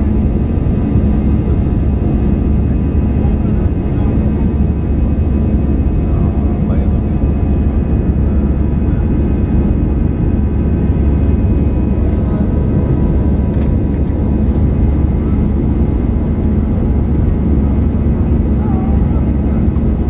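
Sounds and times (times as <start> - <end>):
jet engine roar in cabin: 0.0 - 20.0.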